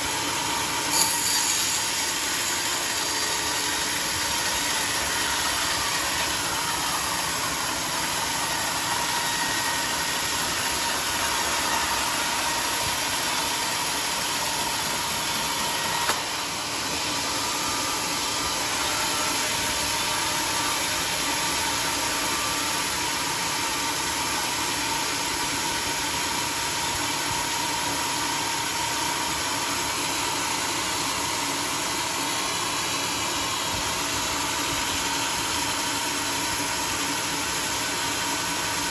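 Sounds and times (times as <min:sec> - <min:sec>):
sawmill drone with whine: 0:00.0 - 0:38.9.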